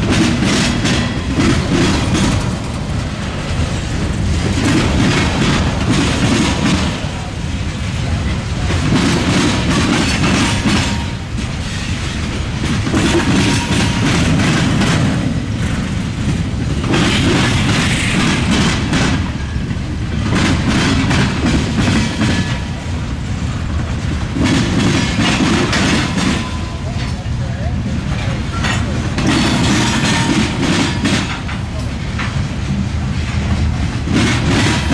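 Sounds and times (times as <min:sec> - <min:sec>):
train wheels clattering: 0:00.0 - 0:34.9.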